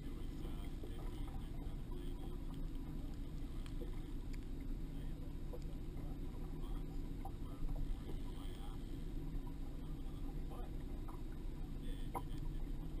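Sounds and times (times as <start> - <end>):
boat motor rumbling: 0.0 - 13.0
water against hull: 0.0 - 13.0.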